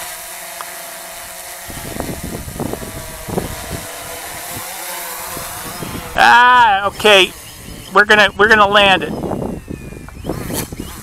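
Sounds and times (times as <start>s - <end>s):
drone propellers humming: 0.0s - 11.0s
wind rumbling on microphone: 1.2s - 11.0s.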